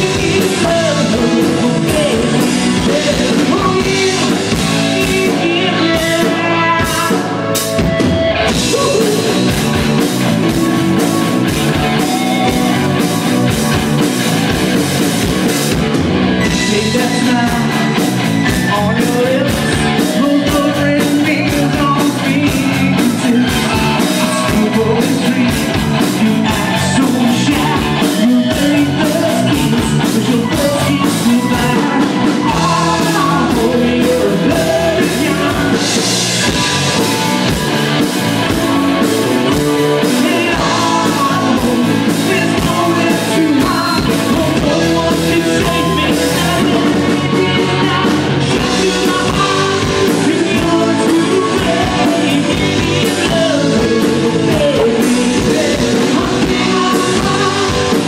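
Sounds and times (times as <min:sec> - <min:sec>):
lead vocal singing: 0:00.0 - 0:15.8, 0:16.4 - 0:58.0
live rock band playing: 0:00.0 - 0:58.0.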